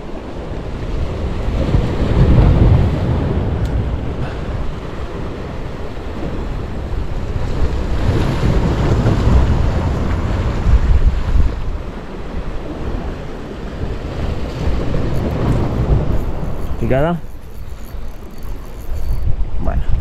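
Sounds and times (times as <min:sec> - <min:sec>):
surf washing against concrete: 0:00.0 - 0:20.0
wind buffeting microphone: 0:00.0 - 0:20.0.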